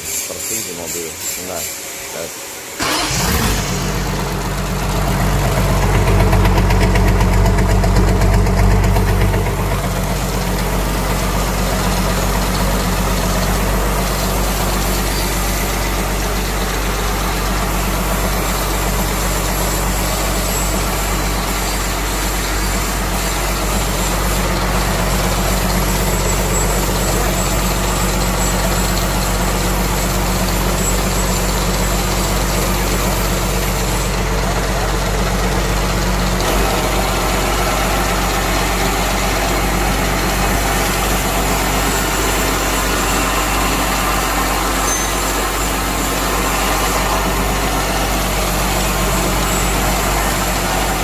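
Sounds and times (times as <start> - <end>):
diesel engine idling: 1.6 - 51.0.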